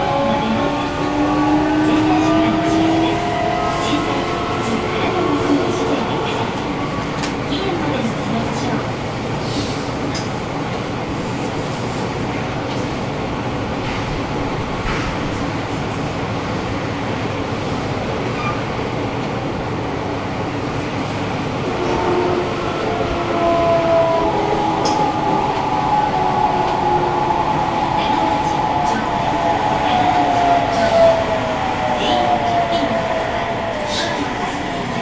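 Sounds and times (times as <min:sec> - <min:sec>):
subway train rumble: 0:00.0 - 0:35.0.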